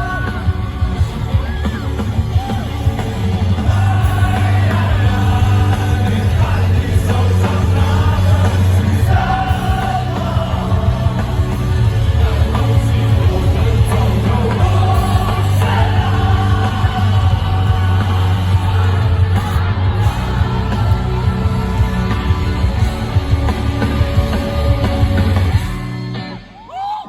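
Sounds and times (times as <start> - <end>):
live rock band: 0.0 - 26.9.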